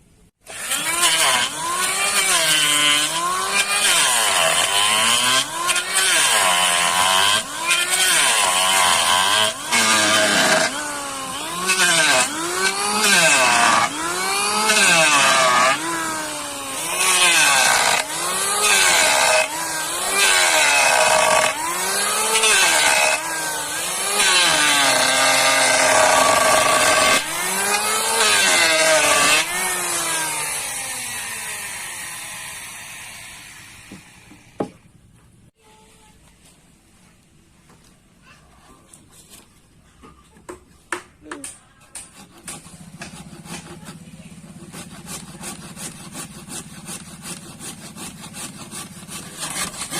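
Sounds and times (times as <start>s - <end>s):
saw cutting plastic drum: 0.4s - 34.8s, 41.9s - 49.9s.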